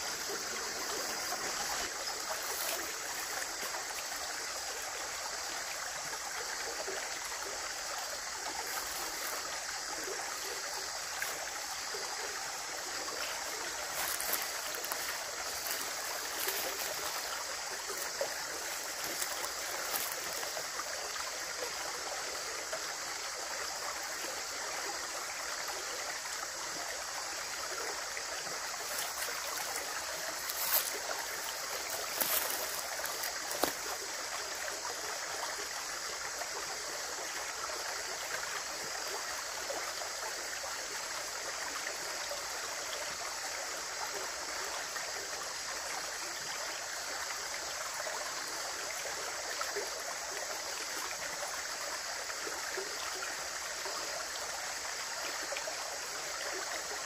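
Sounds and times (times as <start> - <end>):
running water flowing: 0.0 - 57.0.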